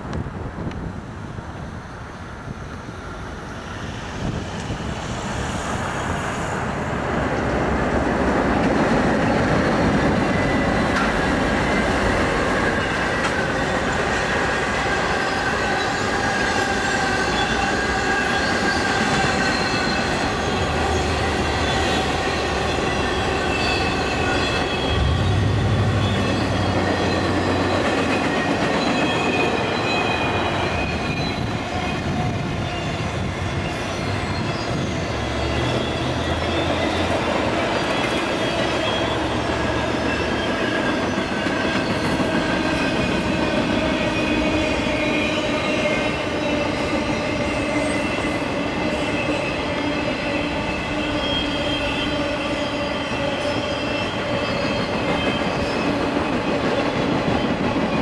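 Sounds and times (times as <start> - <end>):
train wheels rumbling on rail: 0.0 - 58.0
wheels squealing: 9.2 - 58.0.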